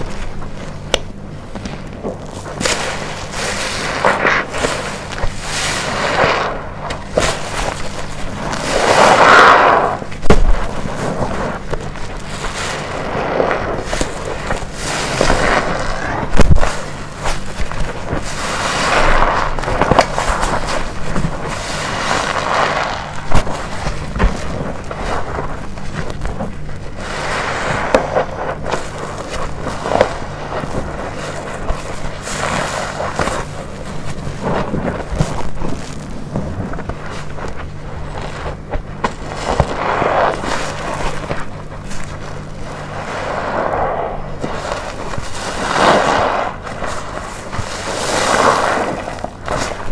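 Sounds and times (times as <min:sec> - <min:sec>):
wet sponge squelching: 0:00.0 - 0:49.9.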